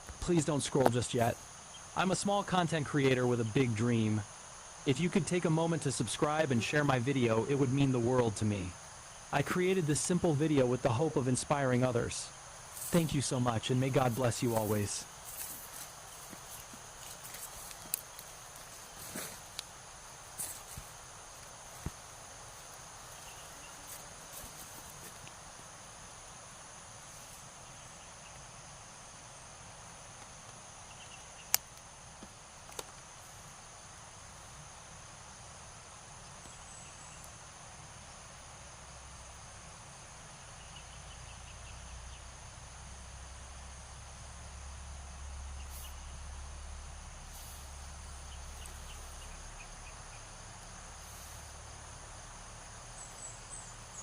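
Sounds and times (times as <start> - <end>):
insects trilling: 0.0 - 54.0
soft hiss: 0.0 - 54.0.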